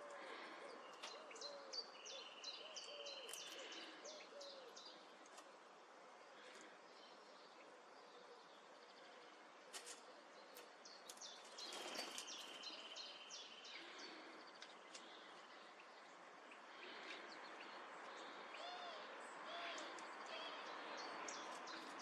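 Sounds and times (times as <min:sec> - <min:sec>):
faint birds chirping: 0:00.0 - 0:22.0.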